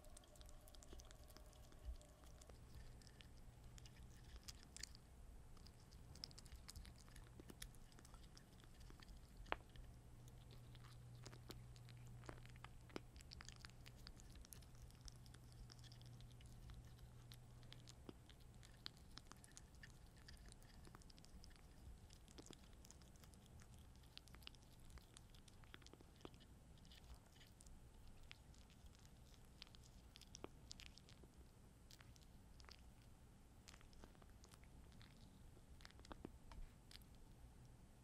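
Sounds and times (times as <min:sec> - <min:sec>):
kitten chewing kibble: 0:00.0 - 0:38.0
low steady hum: 0:00.0 - 0:38.0.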